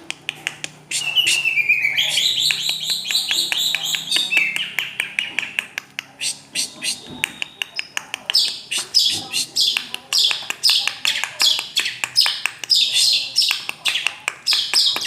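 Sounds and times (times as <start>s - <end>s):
bird singing clicks and whistles: 0.1s - 5.9s, 6.8s - 15.0s.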